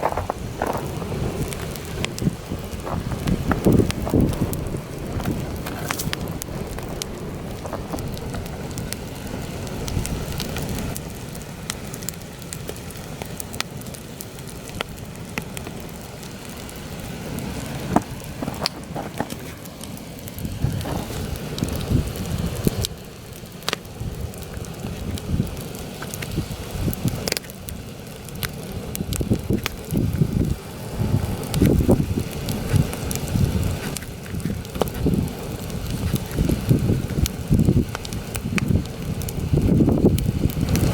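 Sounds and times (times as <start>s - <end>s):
campfire crackling: 0.0s - 40.9s
wind gusts rumbling: 0.0s - 40.9s.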